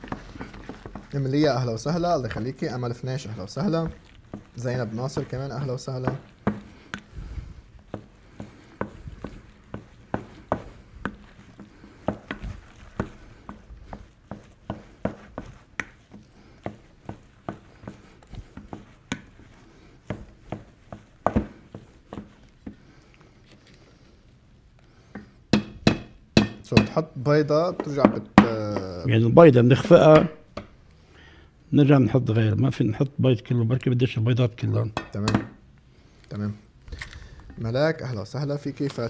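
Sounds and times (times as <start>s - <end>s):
utensil beating dough in pot: 0.0s - 31.1s, 34.4s - 36.4s.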